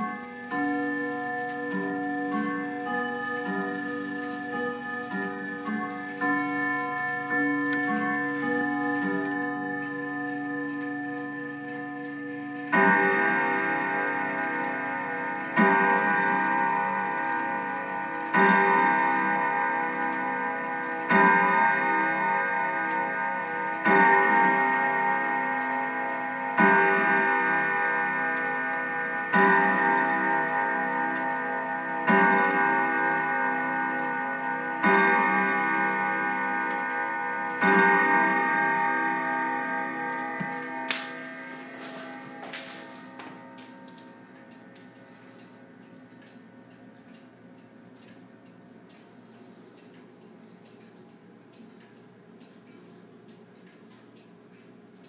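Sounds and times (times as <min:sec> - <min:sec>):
clock chime strikes: 0:00.0 - 0:55.0
clock ticking: 0:00.0 - 0:55.0.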